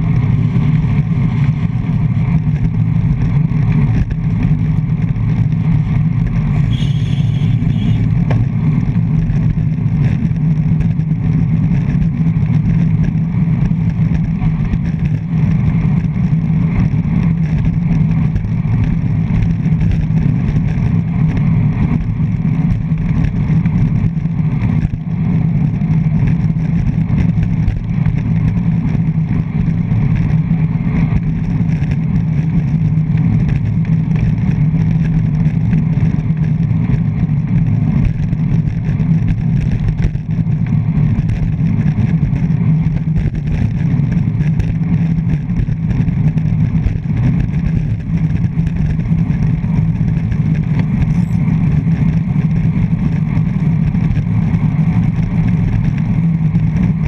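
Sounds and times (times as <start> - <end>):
road vibration: 0.0 - 57.0
wind rushing over camera: 0.0 - 57.0.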